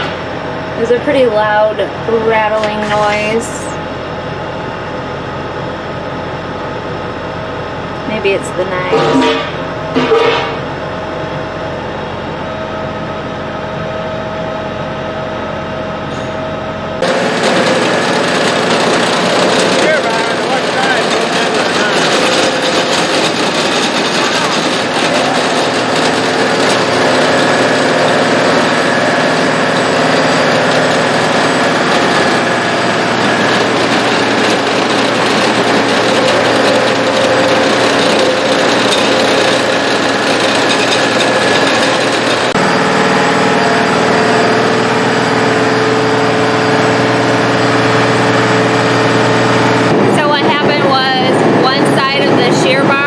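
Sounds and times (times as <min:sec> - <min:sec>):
tractor engine running: 0:00.0 - 0:13.8, 0:16.6 - 0:53.0.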